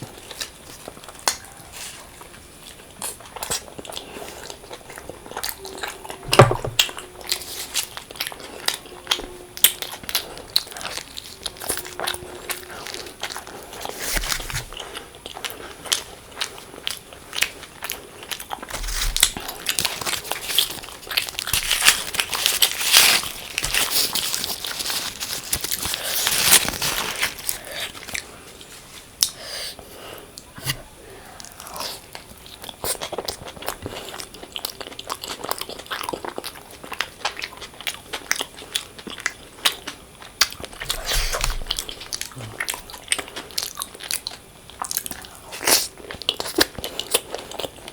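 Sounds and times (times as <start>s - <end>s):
person biting and chewing: 3.0s - 28.3s, 30.4s - 47.9s.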